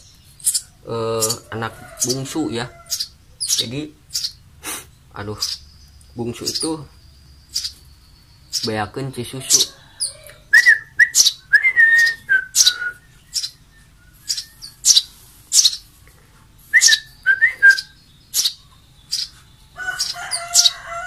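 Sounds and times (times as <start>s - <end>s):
fledglings chirping high: 0.0s - 21.0s.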